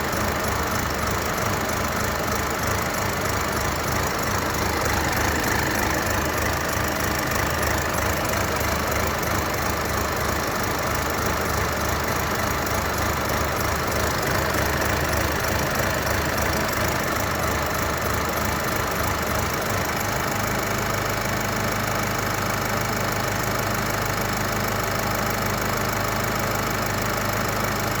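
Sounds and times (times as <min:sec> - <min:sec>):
diesel engine idling roughly: 0:00.0 - 0:28.0.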